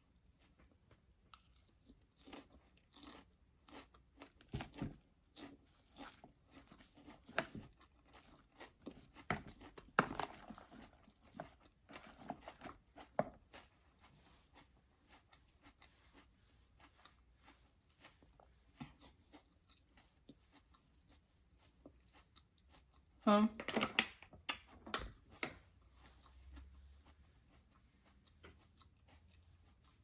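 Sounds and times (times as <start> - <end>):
chewing crunchy vegetables: 0.2 - 23.2, 24.2 - 30.0.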